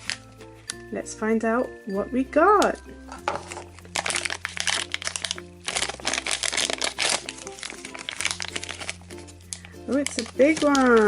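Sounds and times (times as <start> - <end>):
plastic wrapper crinkling: 0.0 - 0.8, 2.5 - 11.0
background music with low notes: 0.0 - 11.0.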